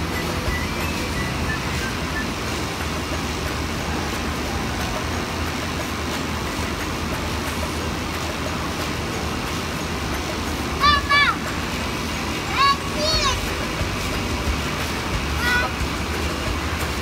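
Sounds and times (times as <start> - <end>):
wind tunnel fan humming: 0.0 - 17.0.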